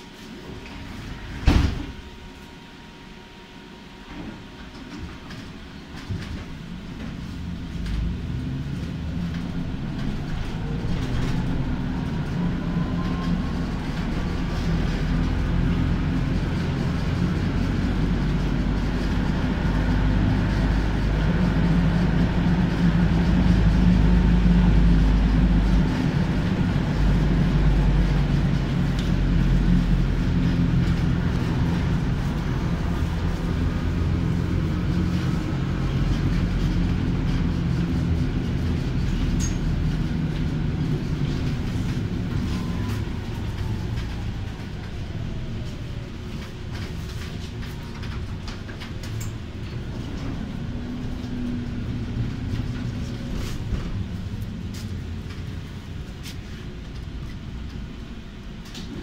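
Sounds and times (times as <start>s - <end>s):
traction motor hum and whine: 0.0s - 59.0s
tram wheels rumbling on rail: 0.0s - 59.0s.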